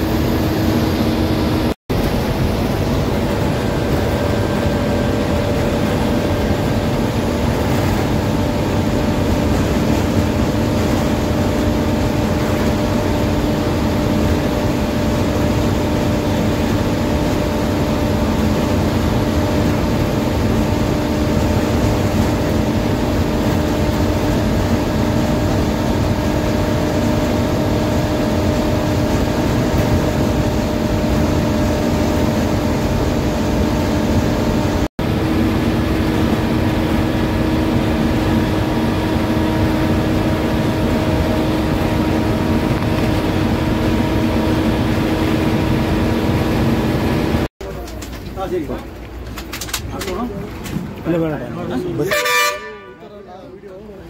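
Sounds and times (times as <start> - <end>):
bus engine drone: 0.0 - 54.0
road noise: 0.0 - 54.0
steady hum tones: 0.0 - 54.0.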